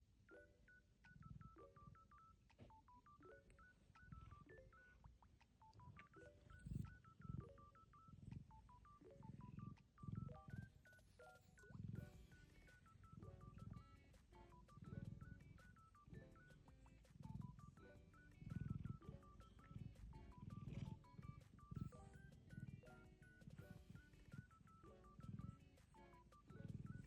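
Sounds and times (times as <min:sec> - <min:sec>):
electronic beeping melody: 0:00.3 - 0:27.0.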